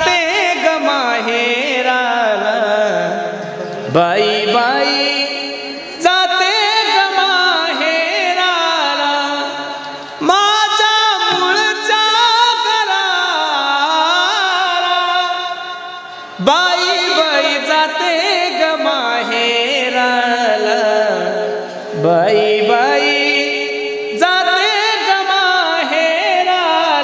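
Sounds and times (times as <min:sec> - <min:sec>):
devotional singing: 0:00.0 - 0:27.0.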